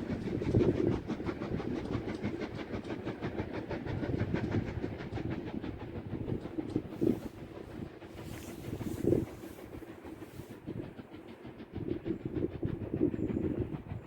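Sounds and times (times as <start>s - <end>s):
low train rumble: 0.0s - 14.0s
train wheels clicking on track: 0.0s - 14.0s.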